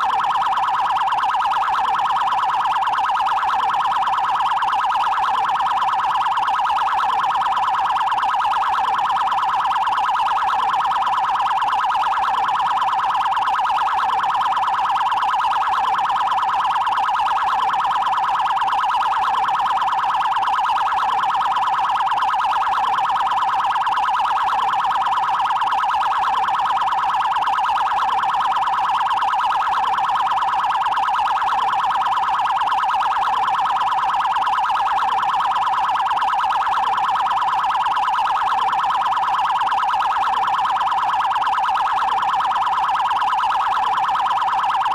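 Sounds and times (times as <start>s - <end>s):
police siren rapid warble: 0.0s - 44.9s.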